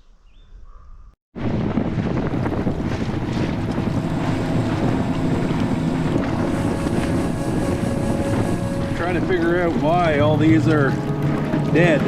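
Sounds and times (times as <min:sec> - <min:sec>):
outboard motor running: 0:01.4 - 0:12.0
wind buffeting microphone: 0:01.4 - 0:12.0.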